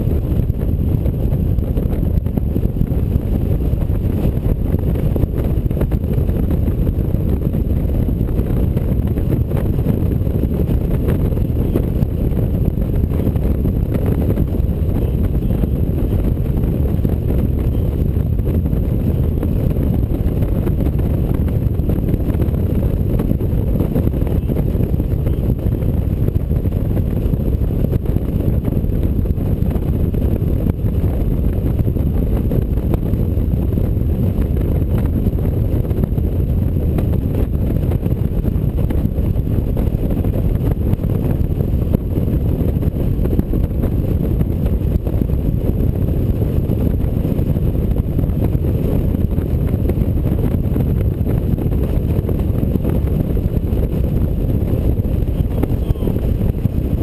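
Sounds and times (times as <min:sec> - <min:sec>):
road noise: 0:00.0 - 0:57.0
wind buffeting microphone: 0:00.0 - 0:57.0.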